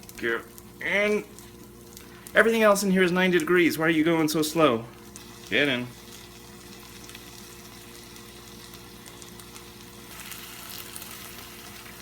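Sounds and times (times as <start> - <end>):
beans sizzling in a frying pan: 0.0 - 12.0.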